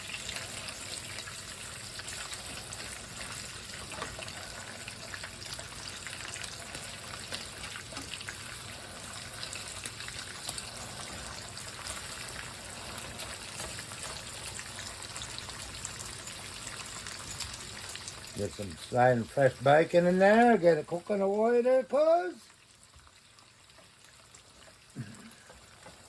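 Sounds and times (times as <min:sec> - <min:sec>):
bacon sizzling in a frying pan: 0:00.0 - 0:26.0.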